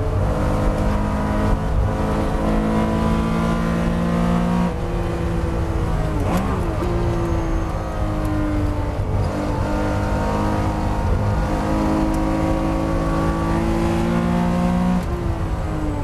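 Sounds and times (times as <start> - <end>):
racing engine at high revs: 0.0 - 16.0.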